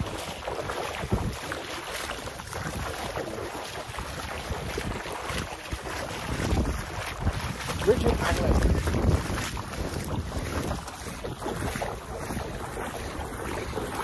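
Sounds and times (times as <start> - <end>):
rushing sea water: 0.0 - 14.0
wind buffeting microphone: 0.0 - 14.0.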